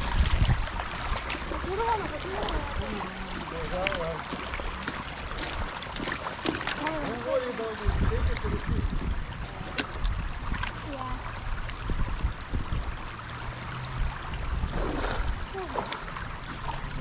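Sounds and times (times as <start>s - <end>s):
low uneven rumble: 0.0s - 17.0s
river water rushing: 0.0s - 17.0s.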